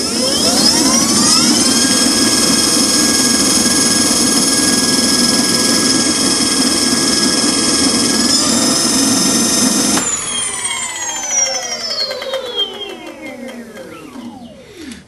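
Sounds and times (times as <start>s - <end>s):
electric motor whining: 0.0s - 15.0s
motor coasting down: 0.0s - 15.0s.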